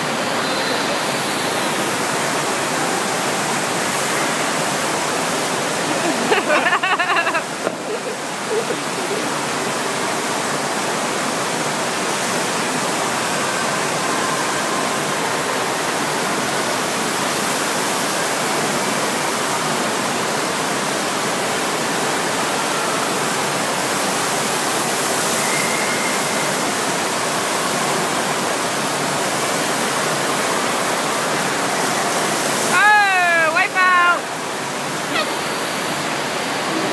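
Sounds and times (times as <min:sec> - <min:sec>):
water rushing: 0:00.0 - 0:36.9.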